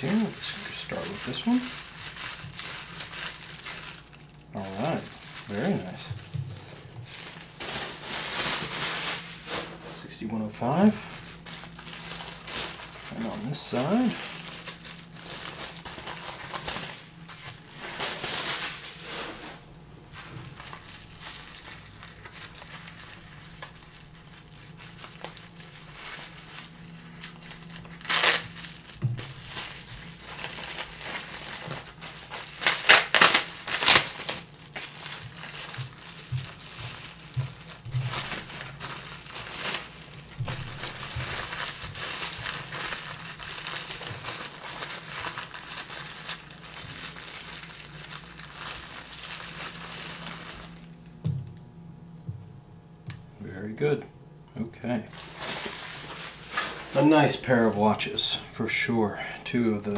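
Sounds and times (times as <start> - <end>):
plastic wrapping crinkling: 0.0 - 51.6, 55.0 - 58.3.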